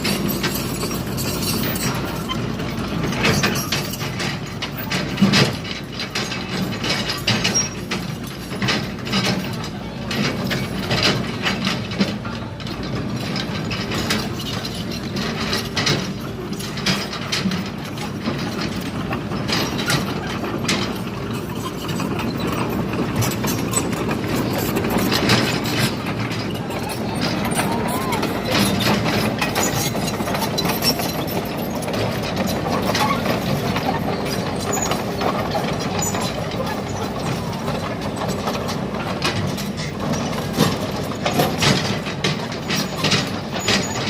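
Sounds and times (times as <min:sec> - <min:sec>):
excavator diesel engine running: 0:00.0 - 0:44.0
metal clanks and knocks: 0:00.0 - 0:44.0.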